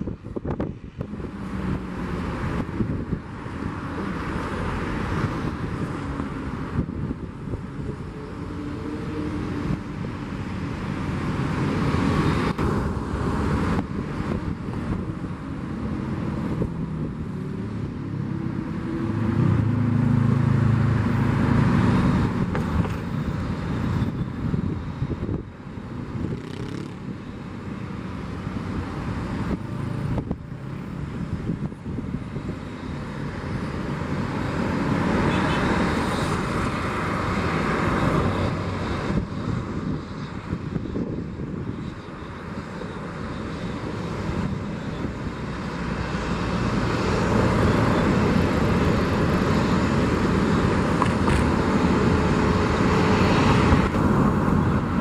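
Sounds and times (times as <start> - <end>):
distant jet engines rumbling: 0.0 - 55.0.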